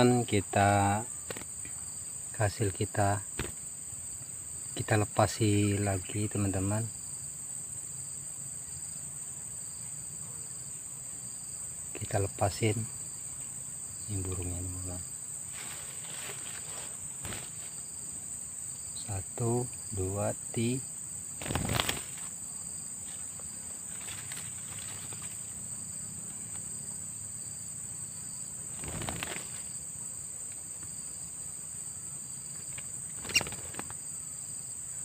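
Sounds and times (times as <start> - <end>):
insect chorus droning: 0.0 - 35.0.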